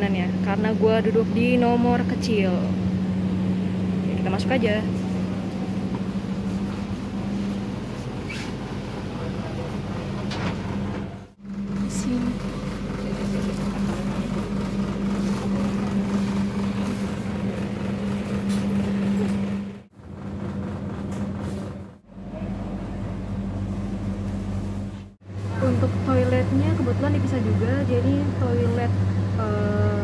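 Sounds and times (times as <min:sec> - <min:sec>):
air conditioning rushing: 0:00.0 - 0:30.0
train coach hum: 0:00.0 - 0:30.0.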